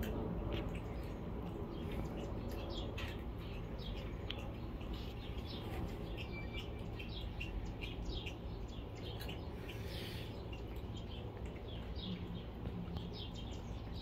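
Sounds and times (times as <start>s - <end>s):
low background hum: 0.0s - 14.0s
small birds chirping: 0.0s - 14.0s.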